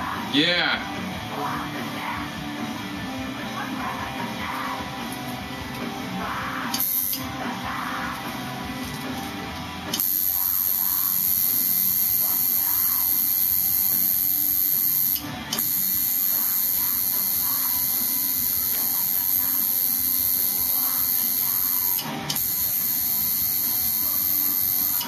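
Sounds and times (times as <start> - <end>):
tattoo machine buzzing: 3.4 - 25.0.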